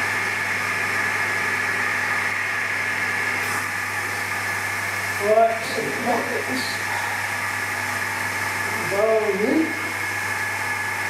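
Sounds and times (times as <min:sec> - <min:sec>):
steady mechanical drone: 0:00.0 - 0:11.0.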